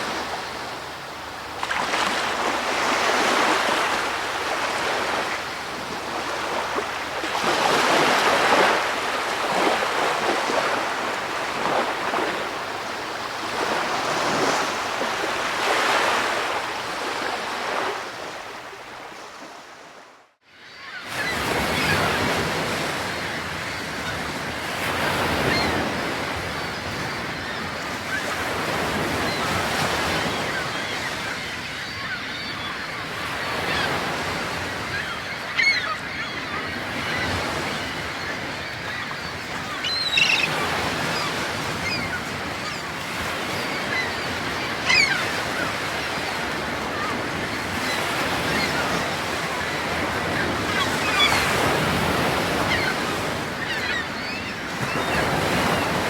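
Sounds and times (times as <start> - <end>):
ocean surf washing: 0.0 - 19.7, 21.2 - 56.0.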